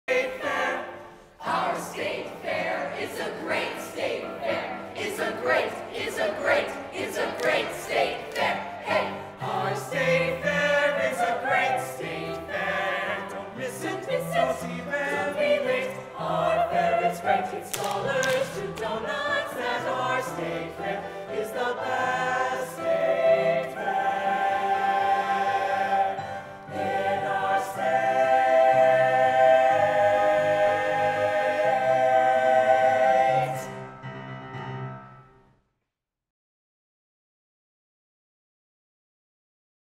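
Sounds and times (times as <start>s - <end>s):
chorus singing a show tune: 0.1s - 33.8s.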